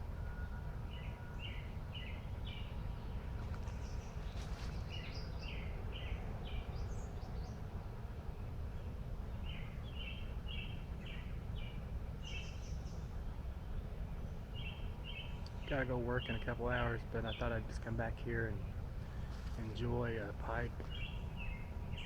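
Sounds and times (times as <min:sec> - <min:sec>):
low background rumble: 0:00.0 - 0:22.0
songbirds singing: 0:00.0 - 0:22.0.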